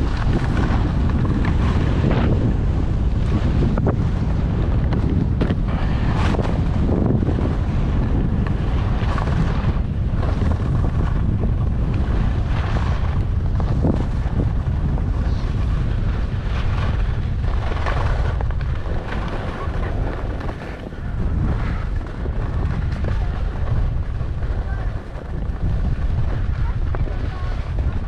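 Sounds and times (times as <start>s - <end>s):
skis carving on packed snow: 0.0s - 28.0s
wind buffeting microphone: 0.0s - 28.0s.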